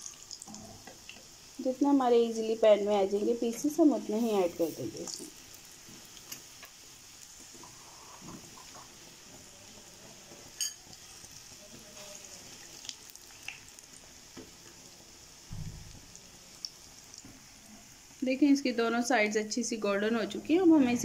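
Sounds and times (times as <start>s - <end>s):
bread sizzling in oil: 0.0s - 20.9s.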